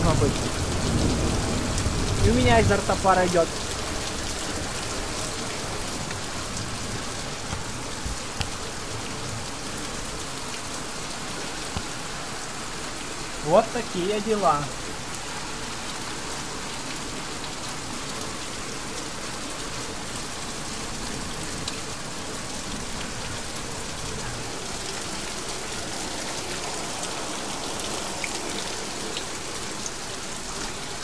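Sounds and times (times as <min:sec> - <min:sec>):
rain on a metal roof: 0:00.0 - 0:31.0.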